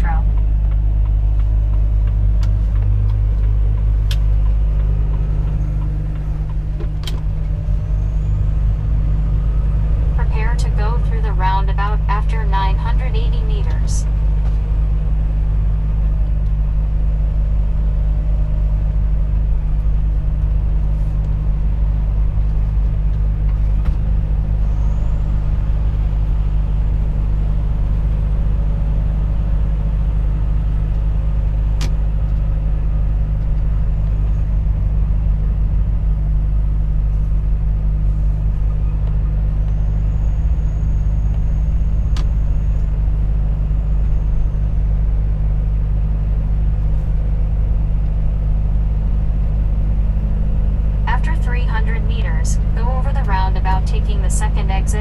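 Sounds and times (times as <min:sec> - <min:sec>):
road rumble: 0:00.0 - 0:55.0
truck diesel engine drone: 0:00.0 - 0:55.0.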